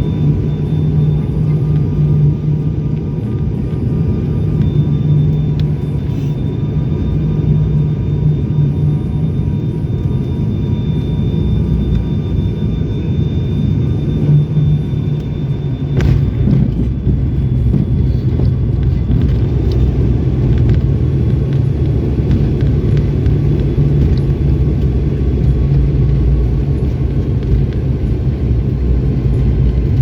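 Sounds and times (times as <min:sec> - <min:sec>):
faint whining tones: 0:00.0 - 0:30.0
propeller drone: 0:00.0 - 0:30.0.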